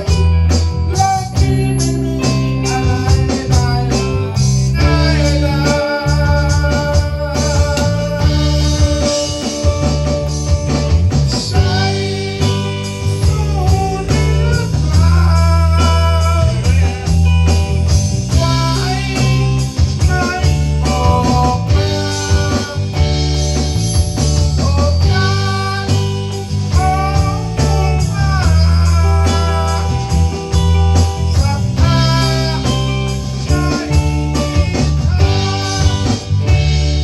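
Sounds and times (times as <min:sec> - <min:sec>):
band music with guitar and bass: 0:00.0 - 0:37.0.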